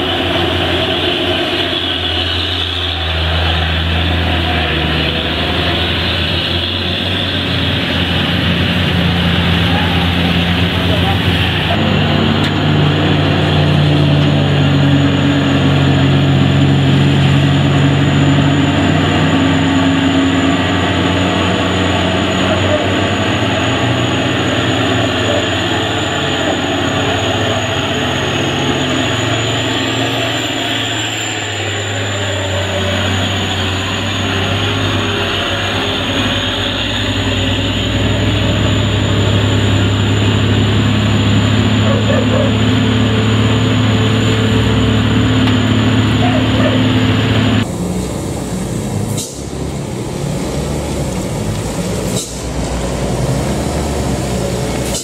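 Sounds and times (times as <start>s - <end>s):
diesel truck engine humming: 0.0s - 55.0s.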